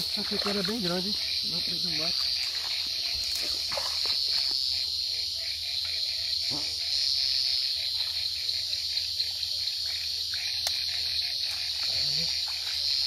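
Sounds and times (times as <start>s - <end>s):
crickets trilling: 0.0s - 13.0s
frogs pulsing: 0.0s - 13.0s.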